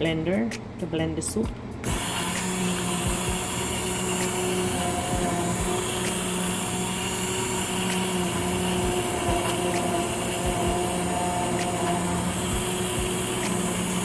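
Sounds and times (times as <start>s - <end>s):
immersion blender whirring: 1.8s - 14.0s.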